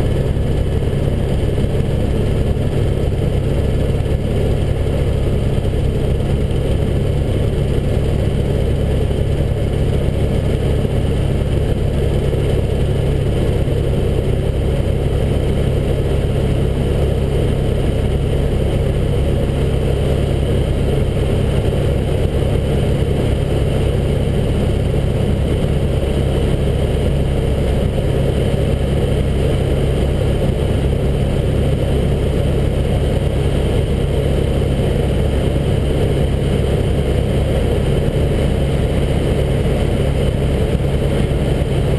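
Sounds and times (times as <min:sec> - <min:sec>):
helicopter engine and rotor drone: 0:00.0 - 0:41.9.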